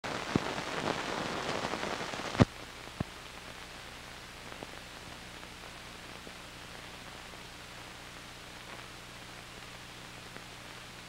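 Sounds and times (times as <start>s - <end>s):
film crackling and popping: 0.1s - 11.0s
steady hiss: 0.1s - 11.0s.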